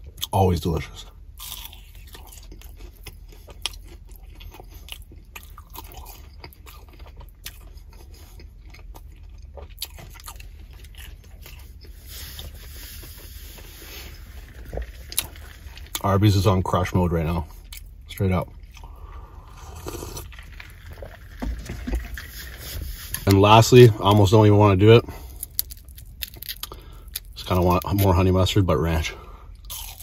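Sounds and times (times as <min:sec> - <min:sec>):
low steady hum: 0:00.0 - 0:30.0
chewing crunchy food: 0:01.2 - 0:24.3, 0:25.0 - 0:28.2, 0:29.5 - 0:30.0.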